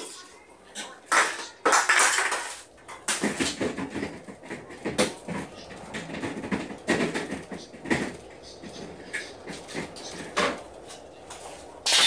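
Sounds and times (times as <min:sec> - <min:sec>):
knocks and clatters: 0:00.8 - 0:12.0.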